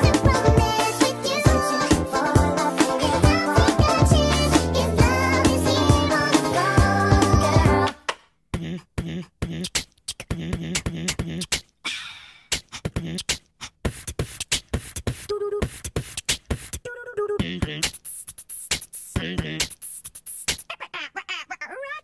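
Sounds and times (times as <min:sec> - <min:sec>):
vocal beatboxing: 0:00.0 - 0:22.0.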